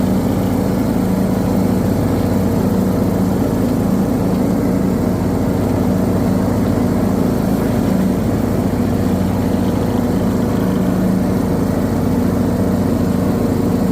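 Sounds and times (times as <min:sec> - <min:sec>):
lawn tractor engine running: 0:00.0 - 0:13.9.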